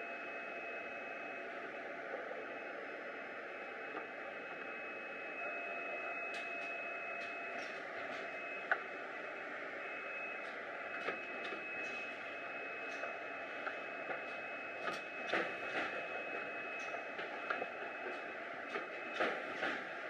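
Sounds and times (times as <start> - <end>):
machine humming with whine: 0.0 - 20.0.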